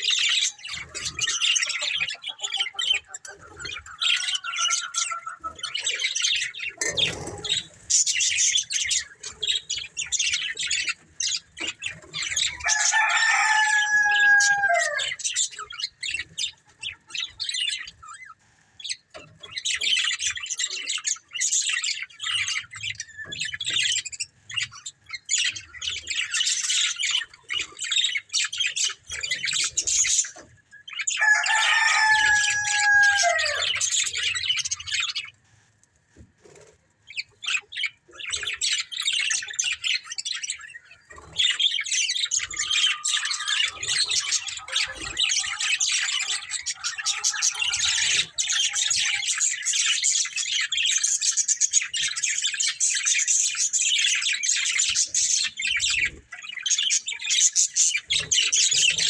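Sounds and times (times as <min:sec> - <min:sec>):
budgerigars chattering: 0:00.0 - 0:35.3, 0:37.1 - 0:59.0.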